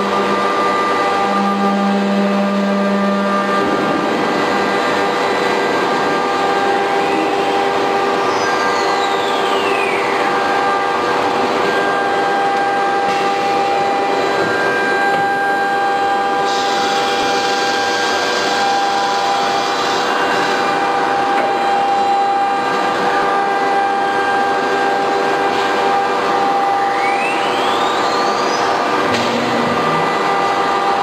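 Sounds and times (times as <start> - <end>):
machine mechanical hum: 0.0 - 31.0.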